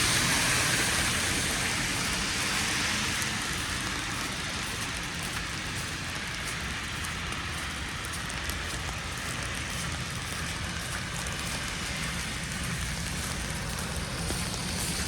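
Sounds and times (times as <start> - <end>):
wet snow falling: 0.0 - 15.0.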